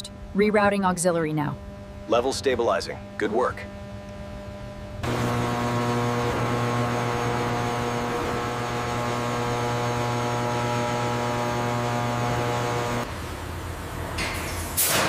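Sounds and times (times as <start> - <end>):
transformer electrical hum: 0.0 - 15.0.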